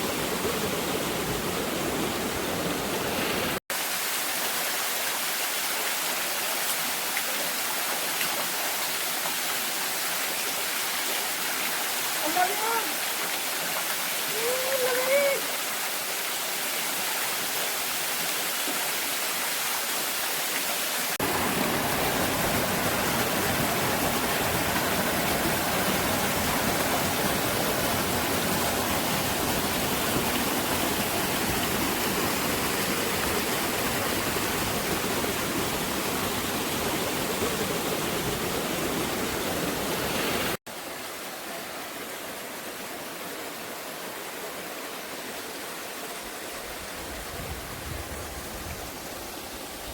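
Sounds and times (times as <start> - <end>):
waterfall rushing: 0.0 - 47.8.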